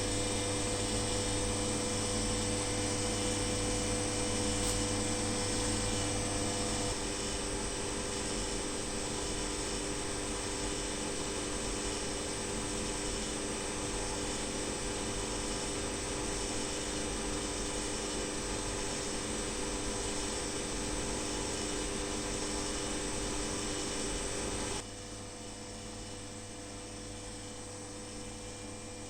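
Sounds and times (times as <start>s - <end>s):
equipment hum and hiss: 0.0s - 29.0s.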